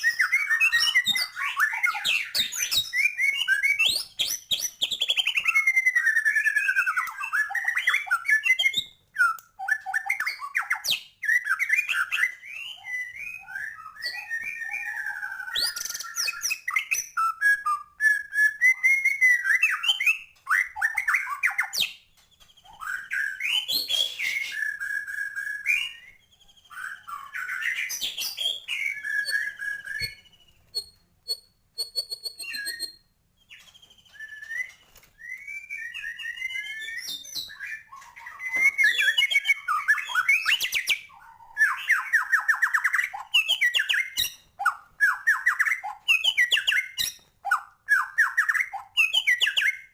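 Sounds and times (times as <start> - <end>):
bird singing whistled phrases: 0.0 - 22.0, 22.6 - 49.9.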